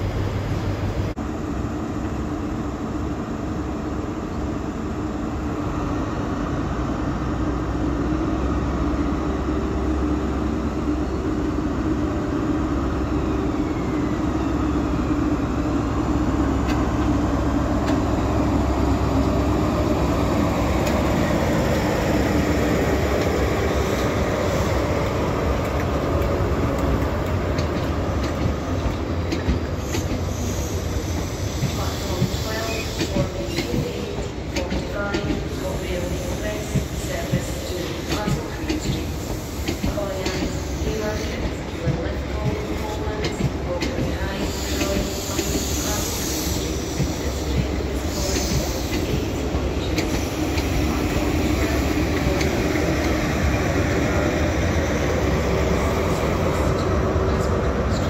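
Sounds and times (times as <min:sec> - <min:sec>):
train diesel engine drone: 0:00.0 - 0:58.0.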